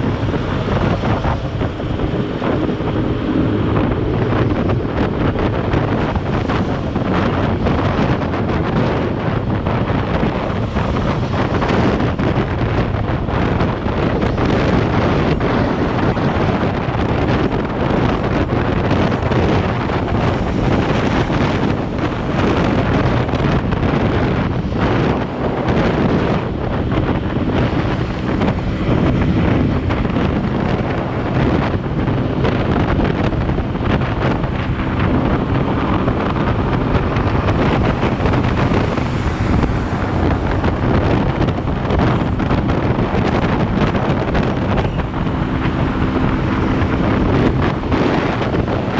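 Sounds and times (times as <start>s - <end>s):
motorcycle engine hum: 0.0s - 48.9s
wind rushing over microphone: 0.0s - 48.9s.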